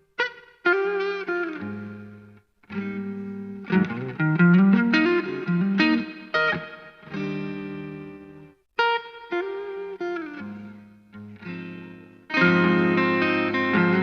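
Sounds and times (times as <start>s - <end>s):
electric guitar playing: 0.0s - 14.0s.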